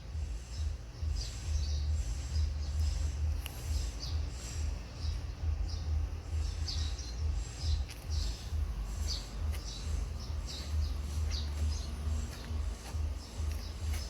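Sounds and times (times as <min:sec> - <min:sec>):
low rumble: 0:00.0 - 0:14.0
small bird chirping: 0:00.0 - 0:14.0.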